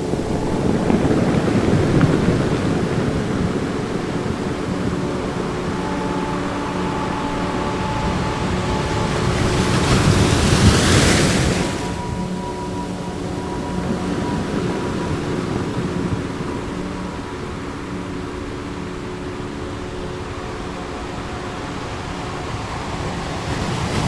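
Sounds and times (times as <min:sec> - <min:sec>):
ambient music drone: 0:00.0 - 0:24.0
ocean waves breaking: 0:00.0 - 0:24.0.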